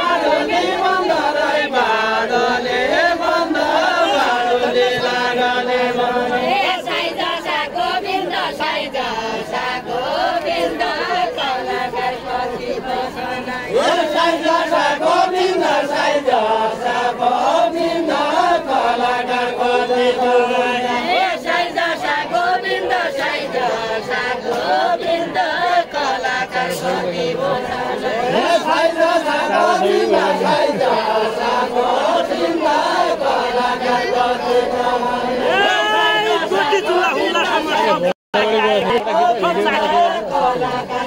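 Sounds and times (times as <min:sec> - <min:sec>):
voices singing together: 0:00.0 - 0:41.0.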